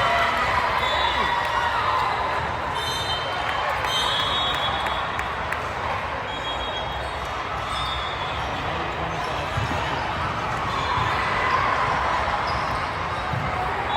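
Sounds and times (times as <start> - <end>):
crowd chatter: 0.0 - 13.9.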